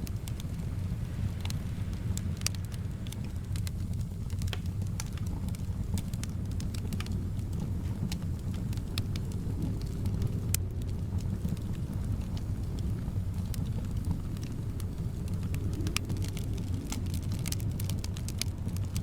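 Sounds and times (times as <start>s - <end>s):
soft wind rumble: 0.0s - 19.0s
wood fire crackling: 0.0s - 19.0s.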